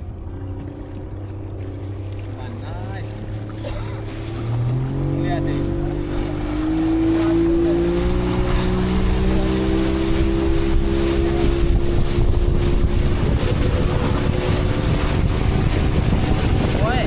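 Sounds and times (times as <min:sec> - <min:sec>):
motorboat engine drone: 0:00.0 - 0:17.0
rushing water: 0:00.0 - 0:17.0
wind buffeting microphone: 0:00.0 - 0:17.0.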